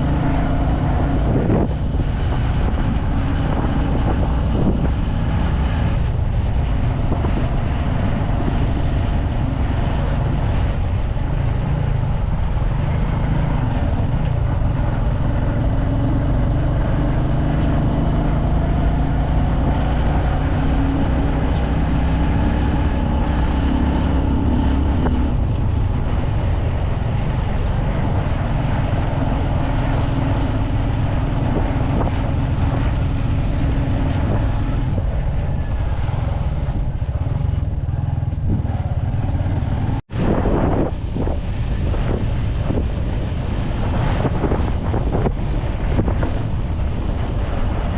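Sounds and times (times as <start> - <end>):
road noise: 0.0 - 47.9
vehicle engine drone: 0.0 - 47.9.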